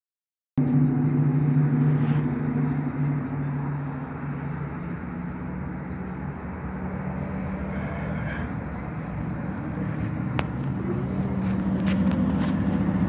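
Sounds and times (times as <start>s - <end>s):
car engine running: 0.6s - 13.0s.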